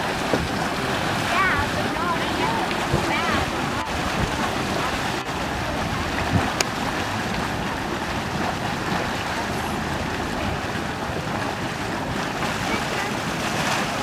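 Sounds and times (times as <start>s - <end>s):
mud churning rushing noise: 0.0s - 14.0s.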